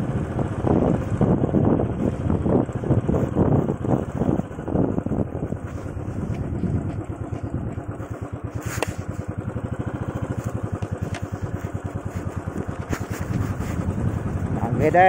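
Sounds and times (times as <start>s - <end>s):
motorcycle engine puttering: 0.0s - 15.0s.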